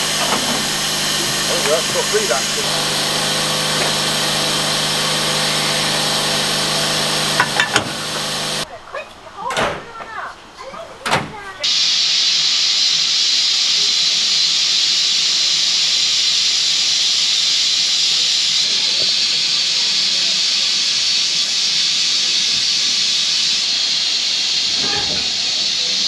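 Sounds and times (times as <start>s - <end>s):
steam hissing: 0.0s - 8.7s, 11.6s - 26.0s.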